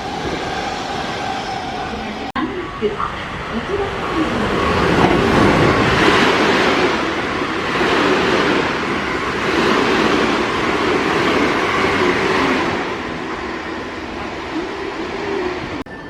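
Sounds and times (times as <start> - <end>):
train cars rumbling on rails: 0.0 - 16.0.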